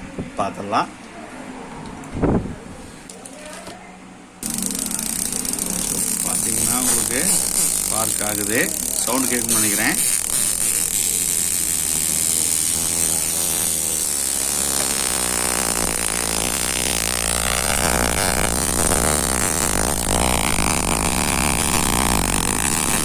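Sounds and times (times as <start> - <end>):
high-voltage sparking crackle: 4.4 - 23.0.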